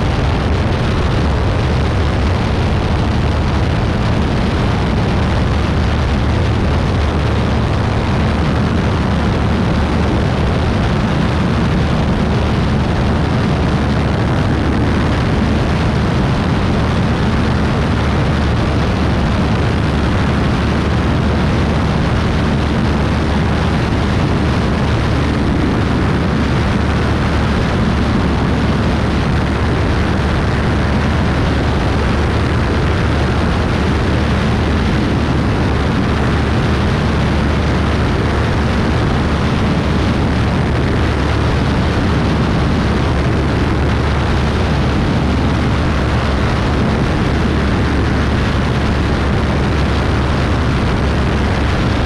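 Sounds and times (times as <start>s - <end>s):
propeller plane engine droning: 0.0s - 52.0s
rush of air: 0.0s - 52.0s.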